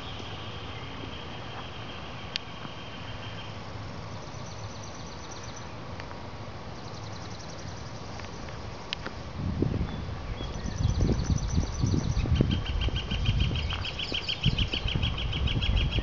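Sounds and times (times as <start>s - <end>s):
songbirds trilling: 0.0s - 5.9s, 6.8s - 9.1s, 9.8s - 16.0s.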